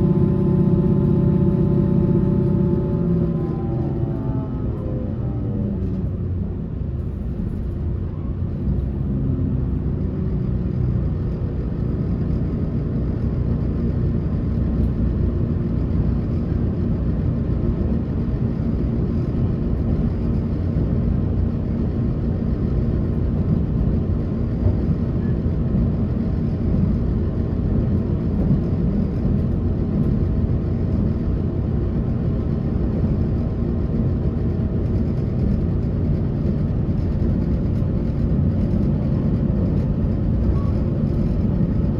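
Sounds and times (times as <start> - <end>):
train rumbling inside car: 0.0 - 41.9.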